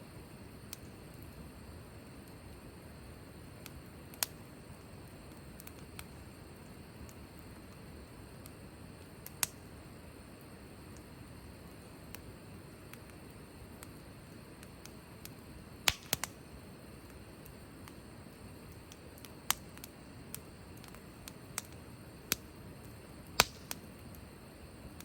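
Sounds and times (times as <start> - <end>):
soft steady hiss: 0.0 - 25.0
wood fire popping and snapping: 0.6 - 1.5, 3.3 - 9.8, 10.4 - 24.3.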